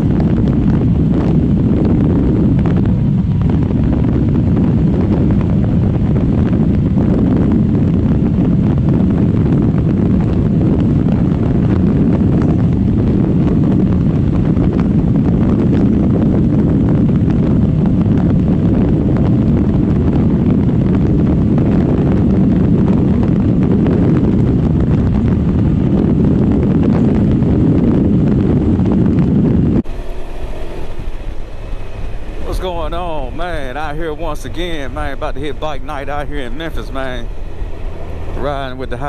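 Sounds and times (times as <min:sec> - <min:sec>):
motorcycle engine: 0:00.0 - 0:39.0
road noise: 0:00.0 - 0:39.0
wind buffeting microphone: 0:00.0 - 0:39.0.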